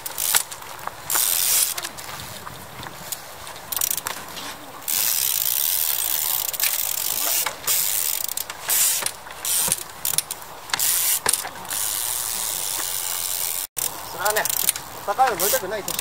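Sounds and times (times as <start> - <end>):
bike freewheel hub ratcheting buzz: 0.0 - 1.9, 3.1 - 4.2, 4.9 - 16.0.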